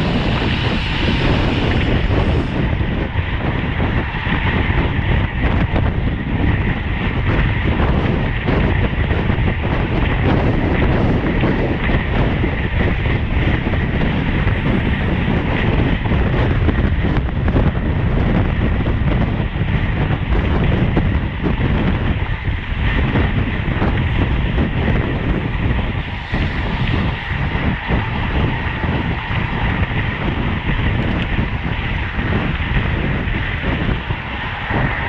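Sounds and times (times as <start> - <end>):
road noise: 0.0 - 35.0
wind rushing over microphone: 0.0 - 35.0.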